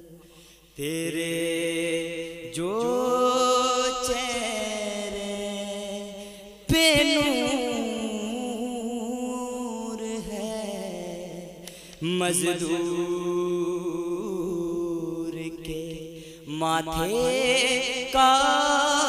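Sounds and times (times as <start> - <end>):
wordless devotional singing: 0.0 - 19.0.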